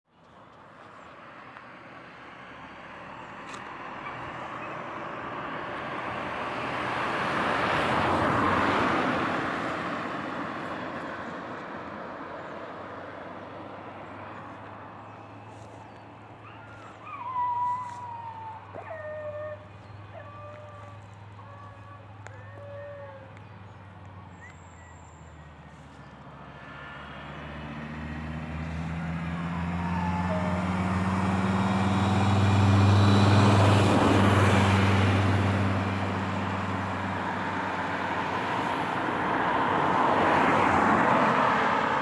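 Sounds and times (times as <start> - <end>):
motor vehicle passing by: 1.2 - 42.0.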